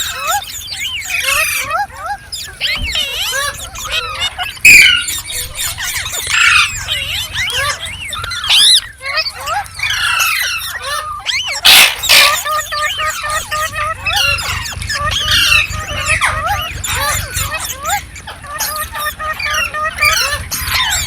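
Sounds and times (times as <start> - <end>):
parrots chattering and screeching: 0.0 - 21.0.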